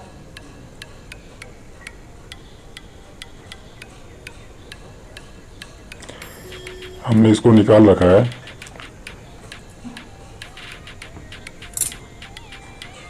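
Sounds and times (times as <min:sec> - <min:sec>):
faint steady hiss: 0:00.0 - 0:13.0
light even ticking: 0:00.0 - 0:13.0.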